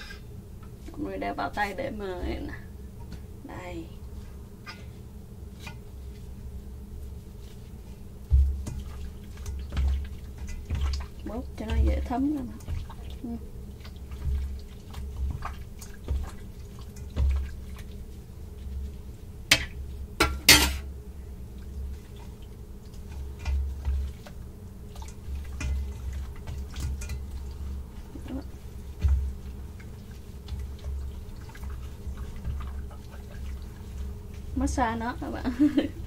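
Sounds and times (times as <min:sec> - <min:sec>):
steady low hum: 0:00.0 - 0:36.0
wet squishing of marinade: 0:05.5 - 0:36.0.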